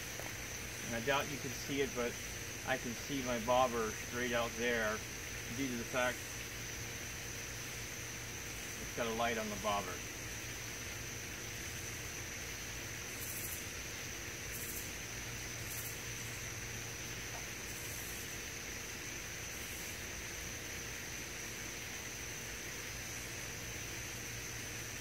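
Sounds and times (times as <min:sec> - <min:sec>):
insect chirping bursts: 0:00.0 - 0:25.0
insects droning: 0:00.0 - 0:25.0
low hiss and hum: 0:00.0 - 0:25.0.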